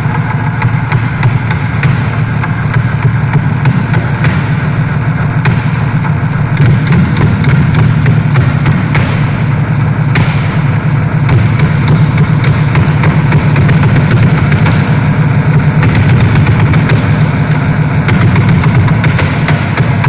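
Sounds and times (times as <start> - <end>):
loud electronic music drone: 0.0 - 20.0.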